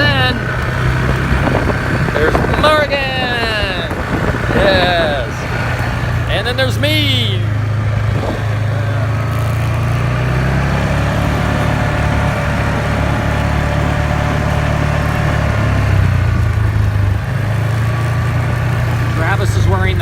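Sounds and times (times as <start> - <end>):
atv engine droning: 0.0 - 20.0.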